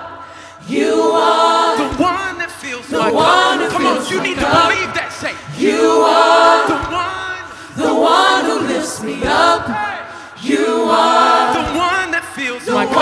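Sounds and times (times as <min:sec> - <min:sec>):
congregation singing worship chorus: 0:00.0 - 0:13.0.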